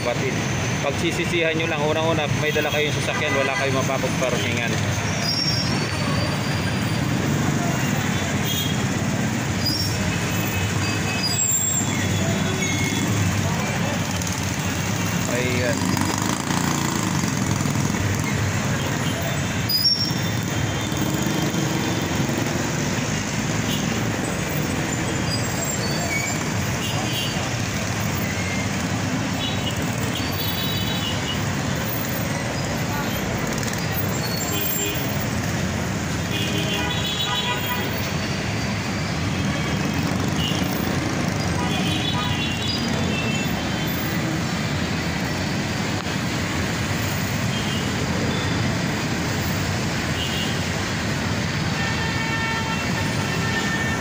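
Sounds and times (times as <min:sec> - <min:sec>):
city traffic engines idling: 0:00.0 - 0:54.0.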